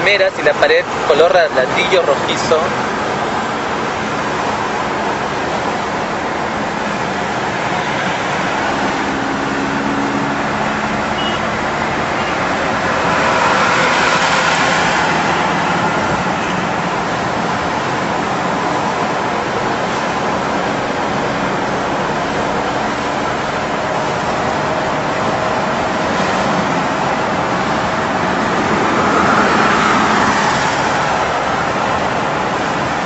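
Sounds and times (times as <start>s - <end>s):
road noise inside moving vehicle: 0.0s - 33.0s.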